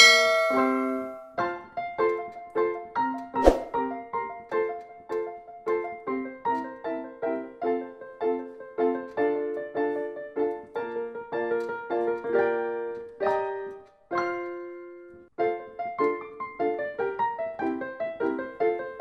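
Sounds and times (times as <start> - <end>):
instrumental music: 0.0 - 19.0.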